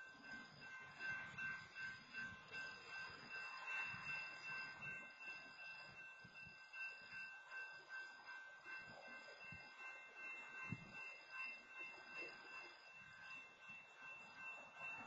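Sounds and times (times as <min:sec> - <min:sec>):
crossing warning bell ringing: 0:00.0 - 0:15.0.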